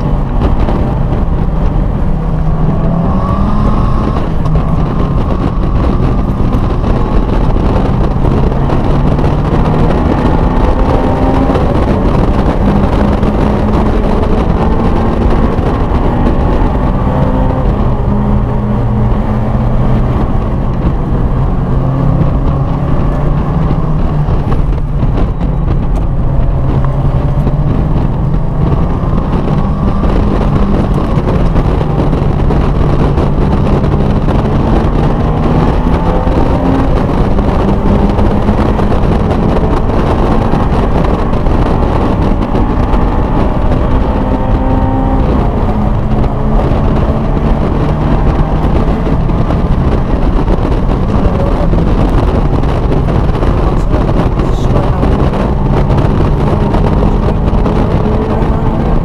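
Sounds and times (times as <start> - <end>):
car engine from inside cabin: 0.0 - 59.0
heavy wind: 0.0 - 59.0
road rumble: 0.0 - 59.0.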